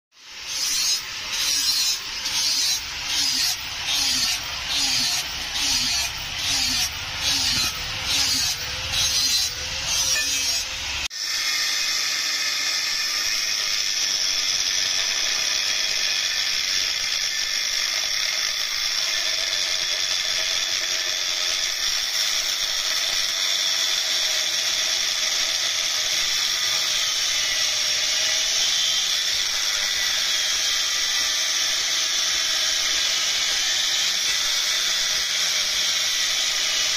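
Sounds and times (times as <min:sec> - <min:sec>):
hand tool rasping steel: 0:00.2 - 0:36.9
whirring power tool with hiss: 0:00.2 - 0:36.9.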